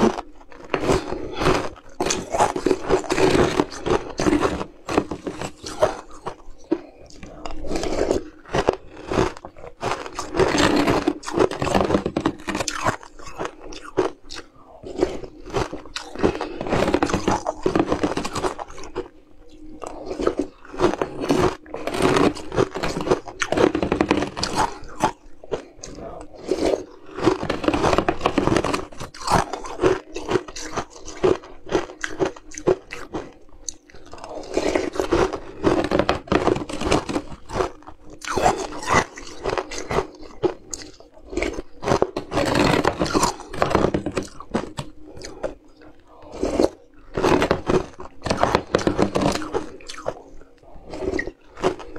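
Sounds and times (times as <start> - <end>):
crunching and chewing ice: 0.0 - 51.9.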